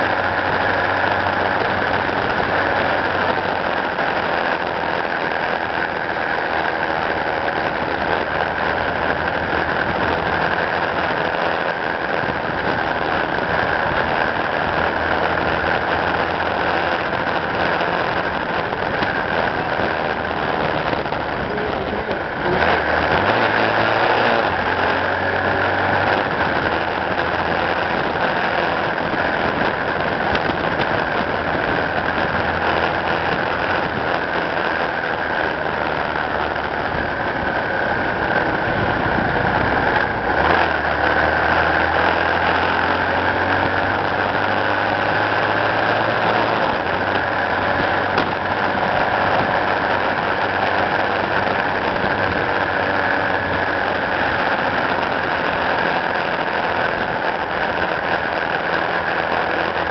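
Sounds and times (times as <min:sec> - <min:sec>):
road and wind noise: 0:00.0 - 0:59.9
vehicle engine running: 0:00.0 - 0:59.9.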